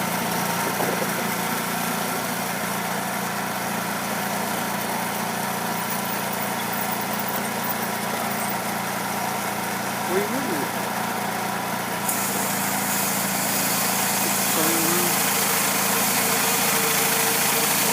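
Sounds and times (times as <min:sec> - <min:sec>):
sawmill engine droning: 0:00.0 - 0:17.9.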